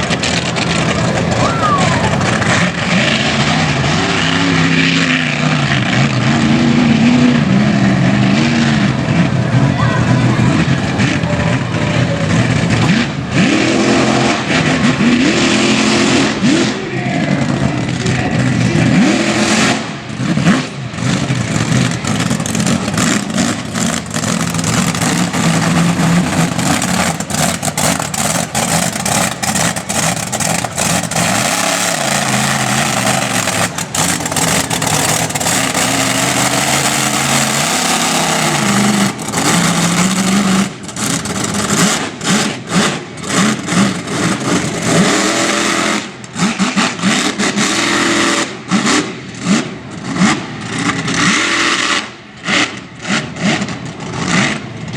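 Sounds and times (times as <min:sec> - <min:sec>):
truck engine revving: 0:00.0 - 0:54.9.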